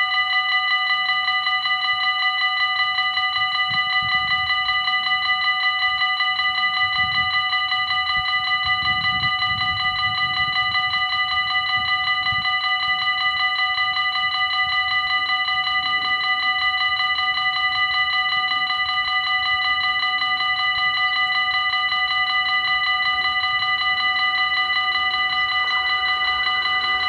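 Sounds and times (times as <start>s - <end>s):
level crossing bells ringing: 0.0s - 27.0s.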